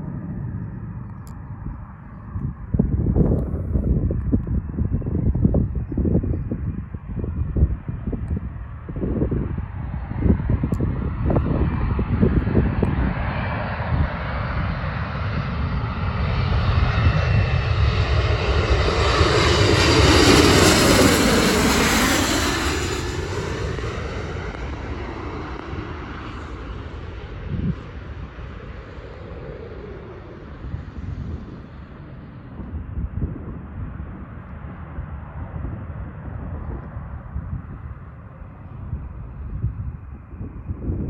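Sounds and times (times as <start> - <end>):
airplane engine passing: 0.0 - 40.9
wind buffeting microphone: 0.0 - 41.0.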